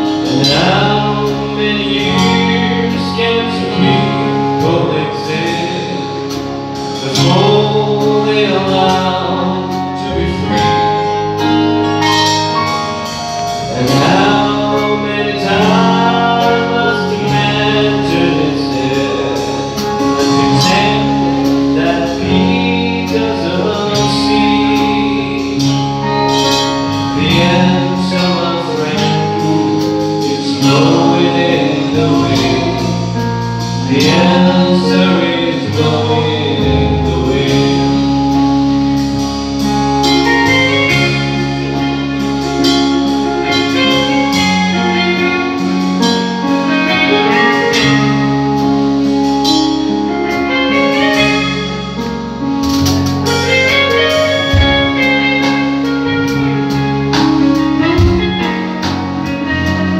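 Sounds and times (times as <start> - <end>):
live band playing: 0.0 - 59.9
wavering lead melody: 0.0 - 59.9.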